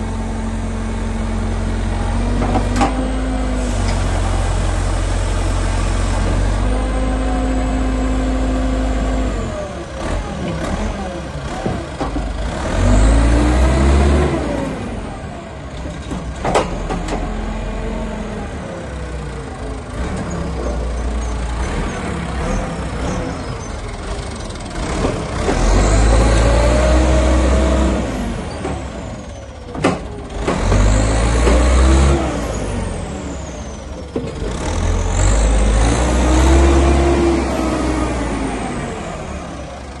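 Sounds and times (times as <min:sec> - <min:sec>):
diesel engine revving: 0:00.0 - 0:40.0.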